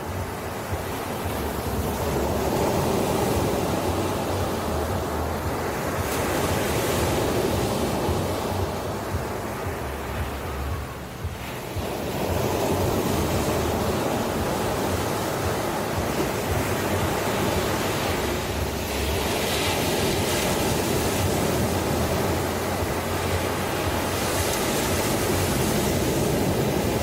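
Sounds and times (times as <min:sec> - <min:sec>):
ocean waves breaking on shore: 0:00.0 - 0:27.0.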